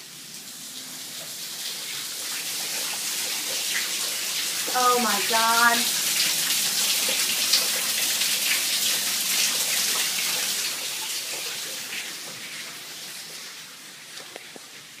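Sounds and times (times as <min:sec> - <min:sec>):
water pouring and splashing into bathtub: 0:00.0 - 0:15.0.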